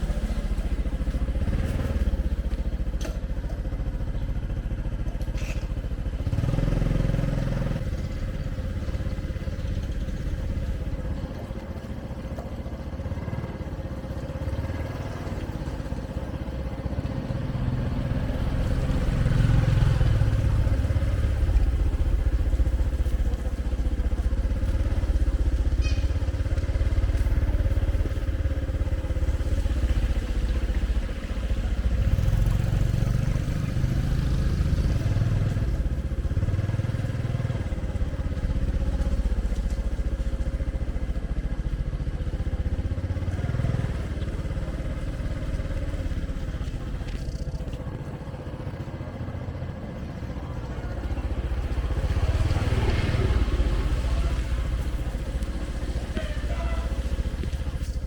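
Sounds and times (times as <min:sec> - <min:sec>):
small motor vehicle running: 0:00.0 - 0:58.0.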